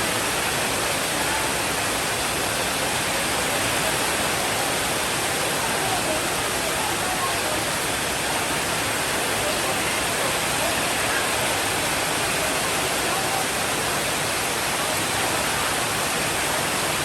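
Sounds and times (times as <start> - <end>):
heavy rainfall: 0.0 - 17.0.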